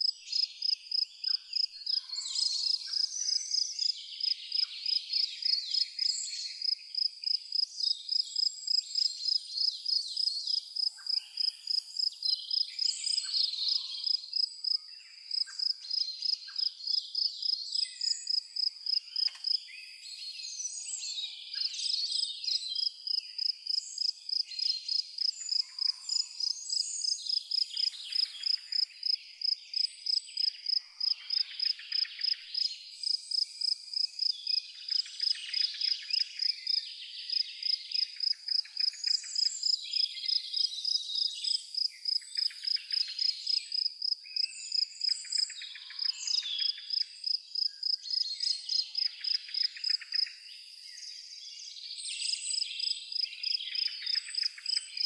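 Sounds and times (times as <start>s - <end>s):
cricket chirping: 0.0s - 20.3s, 21.5s - 50.8s, 52.2s - 55.0s
songbirds calling and twittering: 0.0s - 55.0s.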